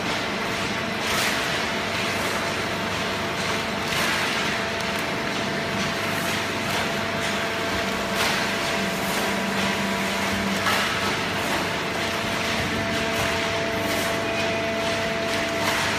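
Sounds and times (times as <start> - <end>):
baler machine hum and whine: 0.0 - 15.9.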